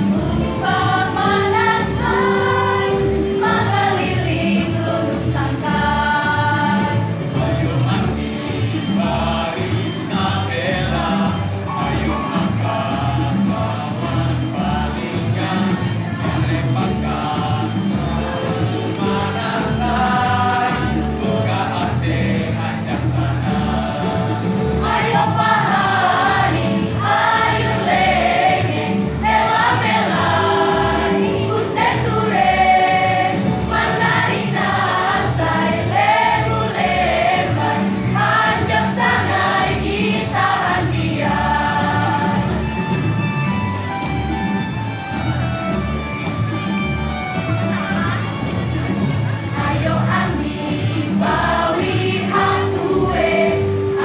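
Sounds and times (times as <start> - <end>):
choir singing: 0.0 - 42.8, 49.5 - 54.0.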